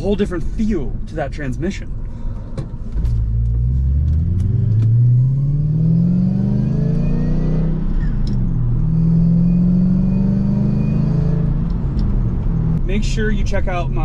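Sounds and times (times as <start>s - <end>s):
car engine accelerating: 1.9s - 14.0s.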